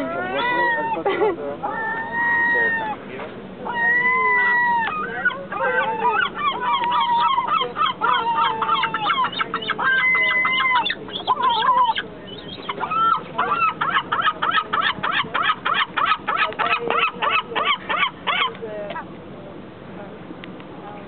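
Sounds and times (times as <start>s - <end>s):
gulls calling: 0.0s - 19.1s.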